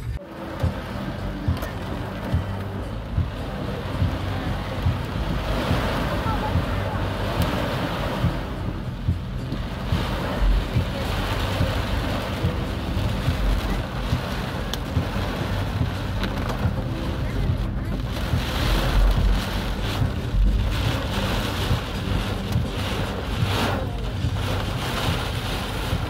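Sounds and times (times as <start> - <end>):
car rumbling on wet road: 0.0 - 26.0
heavy rain on car roof: 0.0 - 26.0.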